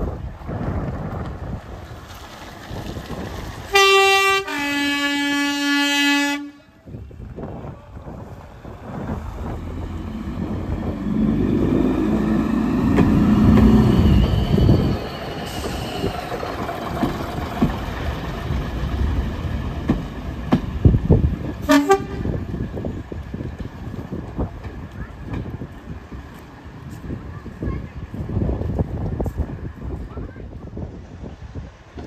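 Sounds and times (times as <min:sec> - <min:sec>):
diesel railcar passing: 0:00.0 - 0:32.0.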